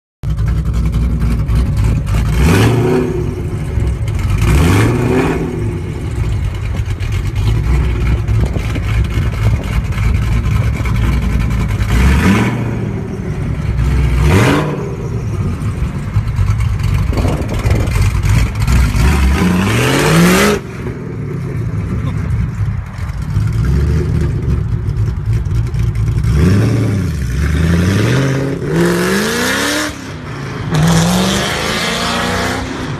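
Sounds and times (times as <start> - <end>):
car engine idling and revving: 0.2 - 32.9.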